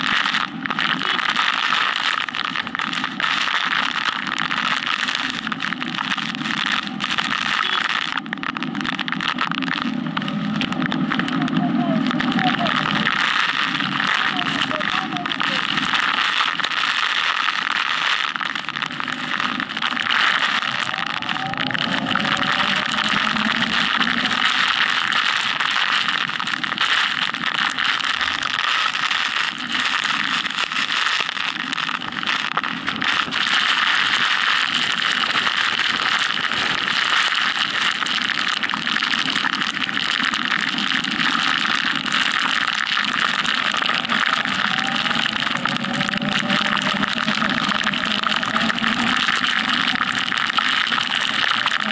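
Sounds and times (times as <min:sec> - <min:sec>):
wind and rain rushing: 0:02.2 - 0:51.9.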